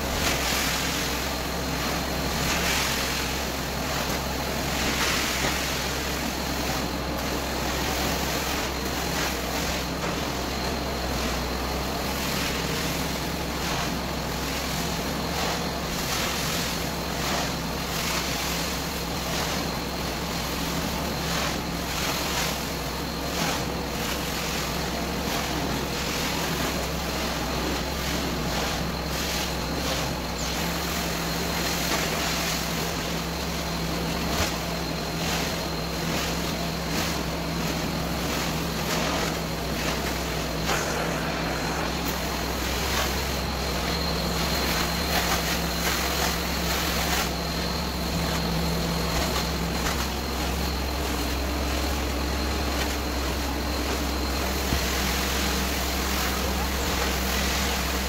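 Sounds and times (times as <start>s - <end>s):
carpet extractor suction and motor: 0.0s - 58.0s
thin high whine: 0.0s - 58.0s.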